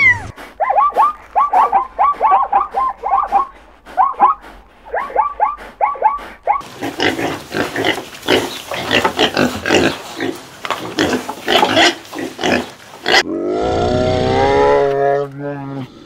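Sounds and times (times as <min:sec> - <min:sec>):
pigs grunting and squealing: 0:00.0 - 0:16.0.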